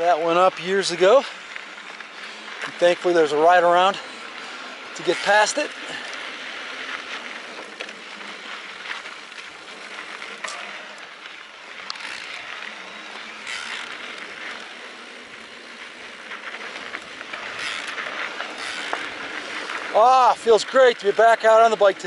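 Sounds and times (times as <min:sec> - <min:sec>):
bike rattling: 0:00.0 - 0:22.0
bike tyres crunching on dirt: 0:00.0 - 0:22.0
sharp clicks over bumps: 0:00.0 - 0:22.0.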